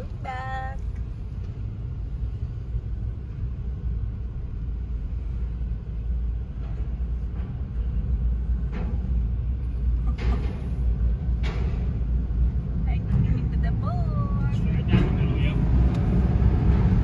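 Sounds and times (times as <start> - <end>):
car rolling low rumble: 0.0 - 17.0.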